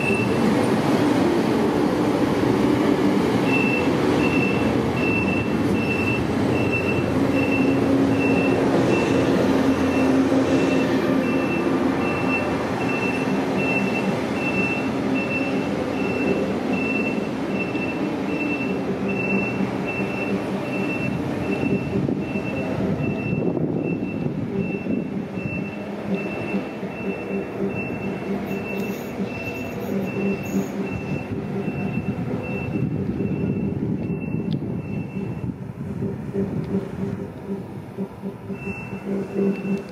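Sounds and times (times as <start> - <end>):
electric locomotive humming: 0.0 - 39.9
rail noise: 0.0 - 39.9
short high beeps: 3.5 - 35.5, 38.4 - 39.9.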